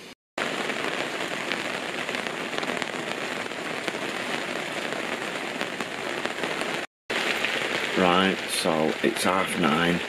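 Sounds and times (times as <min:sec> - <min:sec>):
rain on an awning: 0:00.4 - 0:10.0.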